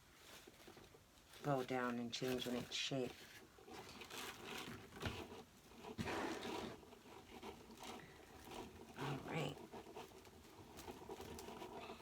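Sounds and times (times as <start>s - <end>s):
mesh and ribbon rustling: 0.0s - 12.0s.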